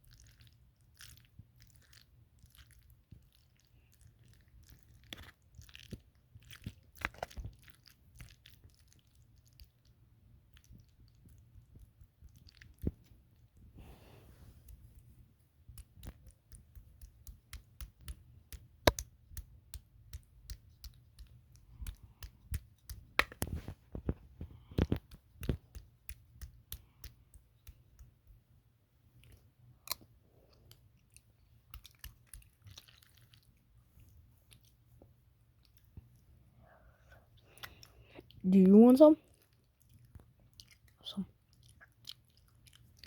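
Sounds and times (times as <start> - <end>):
person chewing food: 0.0 - 28.4, 29.1 - 38.4, 39.2 - 43.0.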